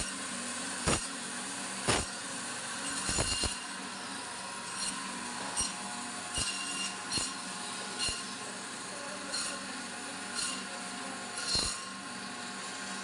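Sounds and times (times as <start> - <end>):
meat band saw motor hum: 0.0 - 13.0.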